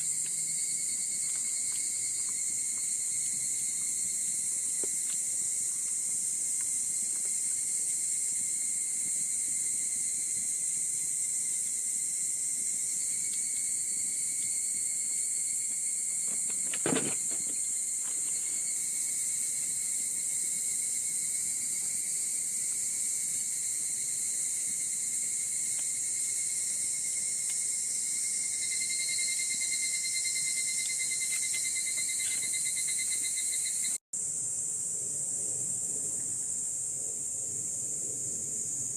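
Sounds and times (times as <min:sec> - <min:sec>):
insects chirping: 0:00.0 - 0:38.9
pulsing insect trill: 0:00.0 - 0:38.9.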